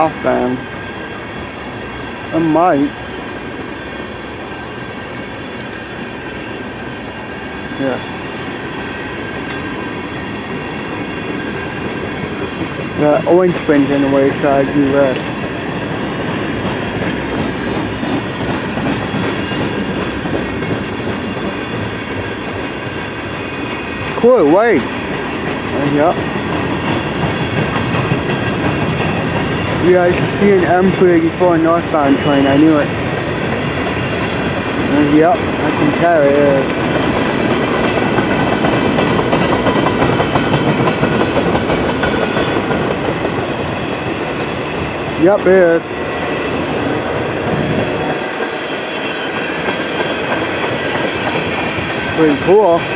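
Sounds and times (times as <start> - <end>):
rail joints clickety-clack: 0.0 - 52.9
steel wheels on track: 0.0 - 52.9.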